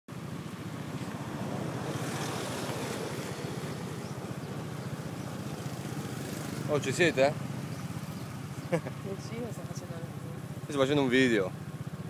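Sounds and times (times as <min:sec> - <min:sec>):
motorbike engine running: 0:01.2 - 0:12.0.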